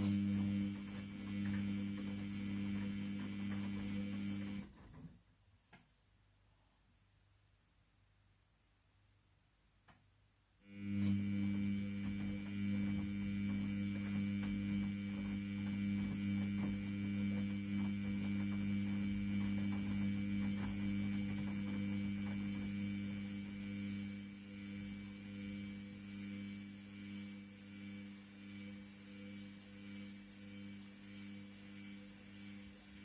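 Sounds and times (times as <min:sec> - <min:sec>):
washing machine motor humming: 0:00.0 - 0:05.2, 0:10.6 - 0:33.0.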